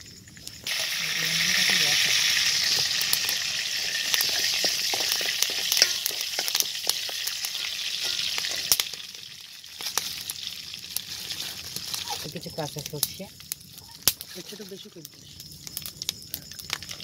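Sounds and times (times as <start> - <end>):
spices sizzling and popping in oil: 0.0 - 17.0.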